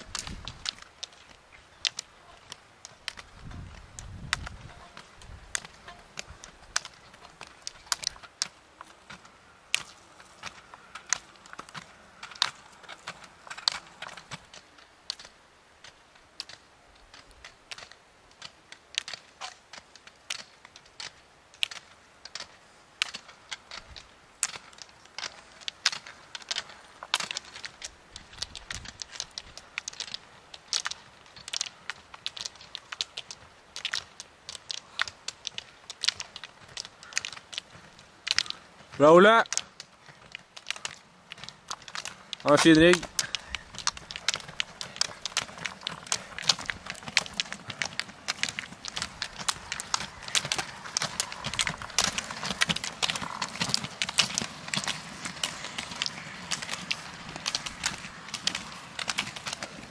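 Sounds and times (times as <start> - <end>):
ski pole tips clicking on asphalt: 0.0 - 59.9.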